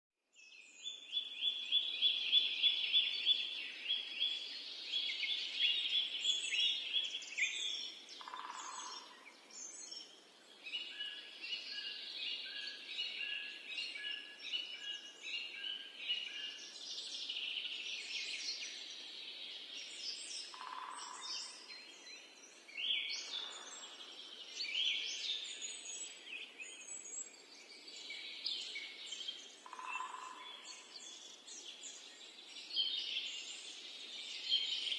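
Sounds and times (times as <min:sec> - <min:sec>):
birds singing and trilling: 0:00.4 - 0:34.9.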